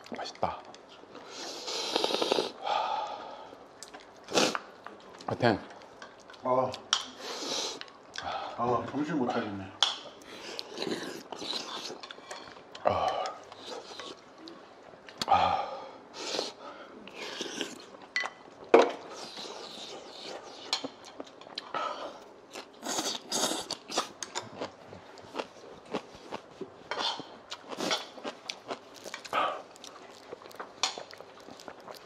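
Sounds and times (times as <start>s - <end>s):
chewing: 3.7s - 15.3s, 16.2s - 32.0s.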